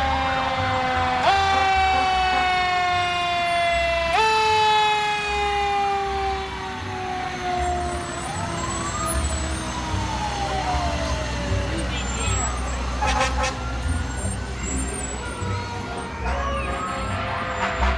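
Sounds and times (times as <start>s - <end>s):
fire truck siren wailing: 0.0s - 17.9s
truck engines rumbling: 0.0s - 17.9s.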